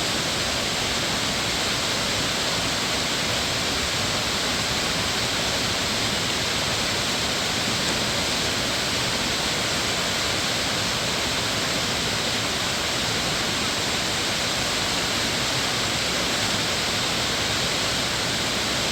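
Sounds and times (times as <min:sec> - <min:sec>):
stream water rushing over rocks: 0:00.0 - 0:18.9.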